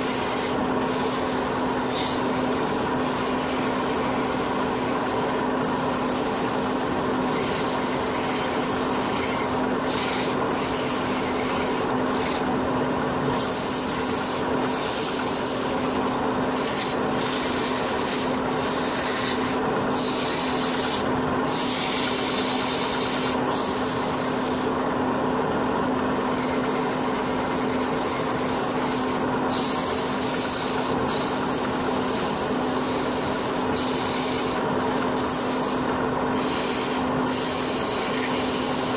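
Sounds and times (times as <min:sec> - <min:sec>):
sandpaper rubbing spinning wood: 0:00.0 - 0:12.6, 0:13.2 - 0:24.8, 0:26.1 - 0:38.9
wood lathe humming: 0:00.0 - 0:38.9.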